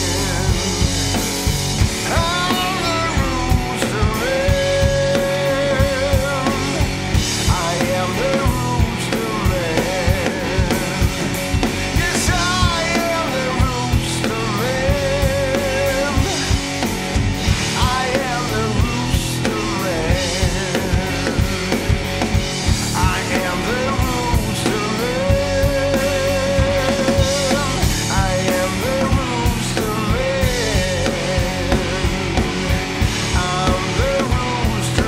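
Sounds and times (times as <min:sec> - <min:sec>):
blues-rock band playing: 0:00.0 - 0:35.0
drum kit driving beat: 0:00.0 - 0:35.0.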